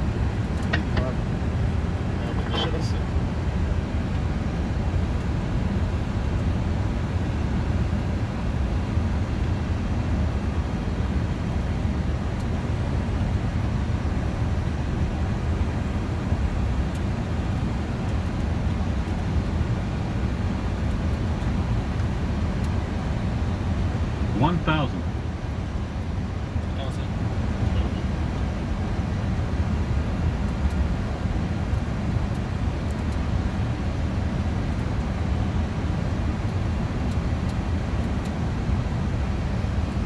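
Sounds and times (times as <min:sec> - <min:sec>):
airplane cockpit rumble: 0:00.0 - 0:40.0.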